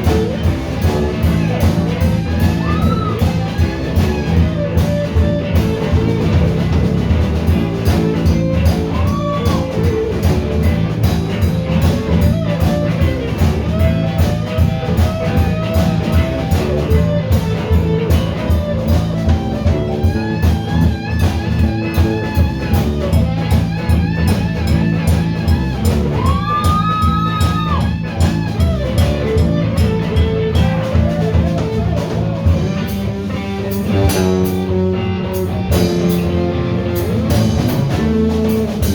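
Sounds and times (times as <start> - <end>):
blues-rock band playing: 0.0 - 38.9
electric guitar lead with bent notes: 0.0 - 38.9.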